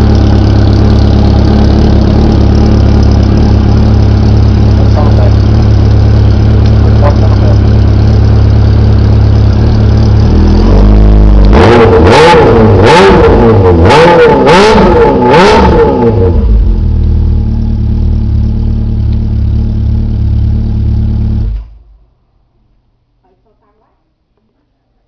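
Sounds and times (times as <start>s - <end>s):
motorcycle engine idling and revving: 0.0s - 22.1s.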